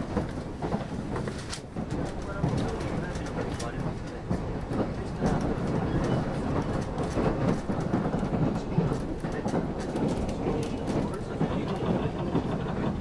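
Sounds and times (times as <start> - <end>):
rail joints clicking and clacking: 0.0 - 13.0
train wheels rumbling on rail: 0.0 - 13.0.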